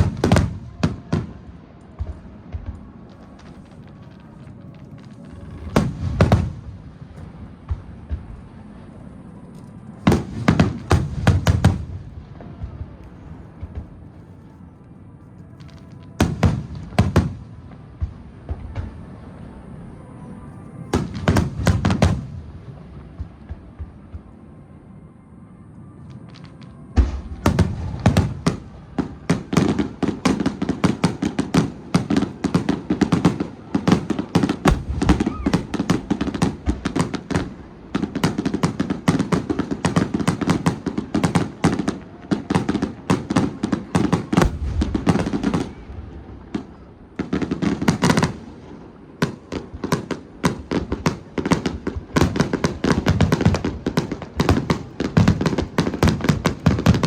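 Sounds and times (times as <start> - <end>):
fireworks booming and crackling: 0.0 - 24.8, 25.9 - 57.0.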